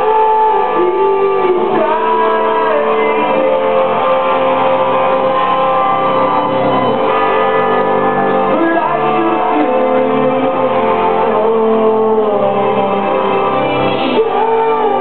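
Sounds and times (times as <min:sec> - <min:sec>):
live synth-rock band playing: 0:00.0 - 0:15.0.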